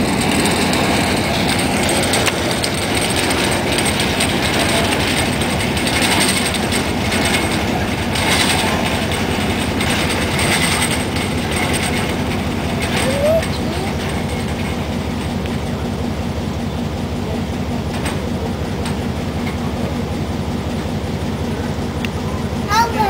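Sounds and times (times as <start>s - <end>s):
diesel locomotive idling: 0.0s - 23.0s.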